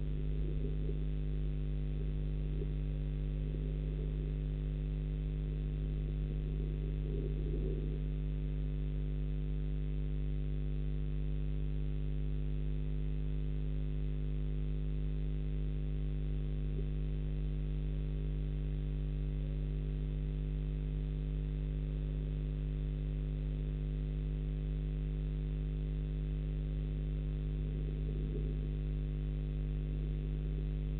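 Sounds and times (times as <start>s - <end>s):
steady electrical hum: 0.0s - 30.9s.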